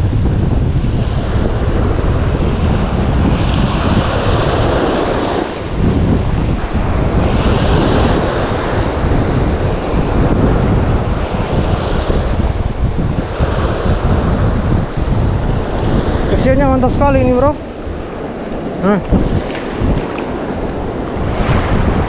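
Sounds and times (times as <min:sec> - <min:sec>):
surf breaking on beach: 0:00.0 - 0:22.0
wind buffeting microphone: 0:00.0 - 0:22.0.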